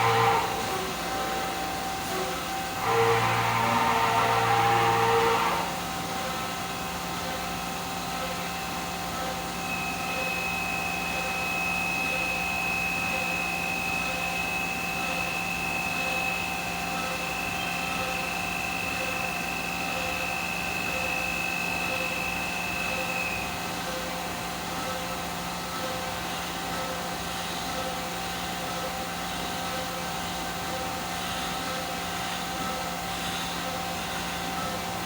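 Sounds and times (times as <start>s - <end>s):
high machine whine: 0.0s - 35.0s
machine mechanical hum: 0.0s - 35.0s.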